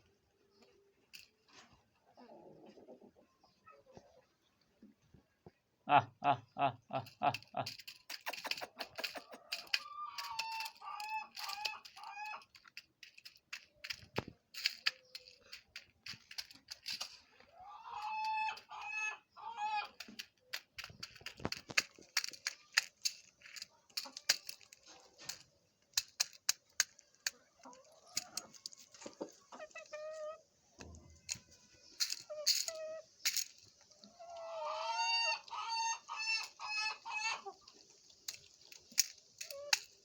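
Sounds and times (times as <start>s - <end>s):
chickens clucking: 0.0s - 40.0s.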